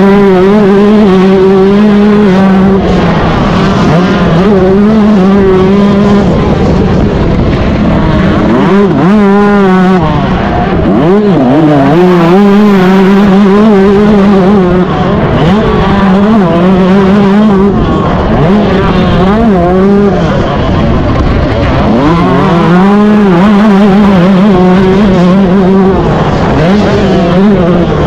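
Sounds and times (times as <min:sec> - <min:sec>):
motocross engine revving: 0:00.0 - 0:28.0
wind noise: 0:00.0 - 0:28.0.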